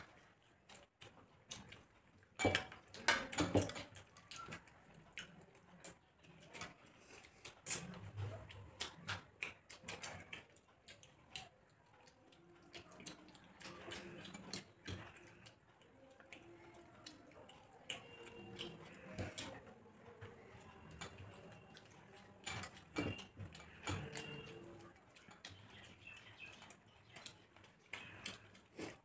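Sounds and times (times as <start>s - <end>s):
wet chewing and lip-smacking: 0.0s - 29.0s.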